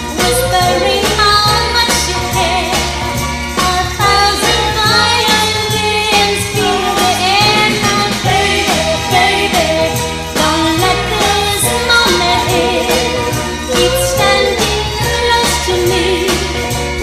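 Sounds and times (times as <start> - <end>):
background music with beat: 0.0 - 17.0.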